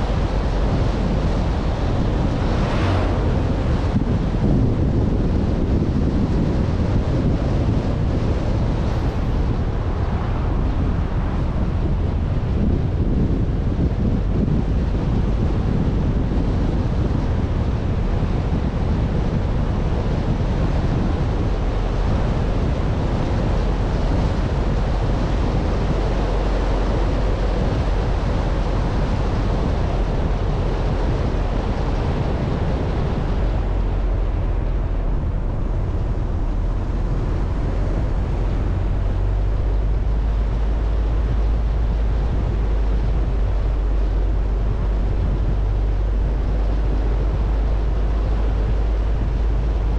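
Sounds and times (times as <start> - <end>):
road and engine rumble: 0.0 - 49.9
wind rush on microphone: 0.0 - 49.9.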